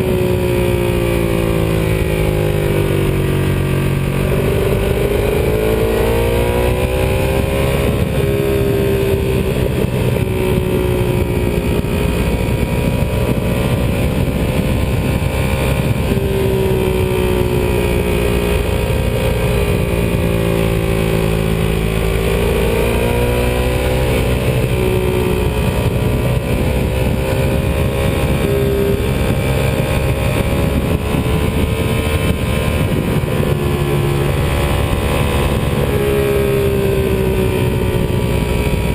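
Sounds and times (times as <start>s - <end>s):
motorcycle engine accelerating: 0.0s - 38.9s
wind and road rush: 0.0s - 38.9s.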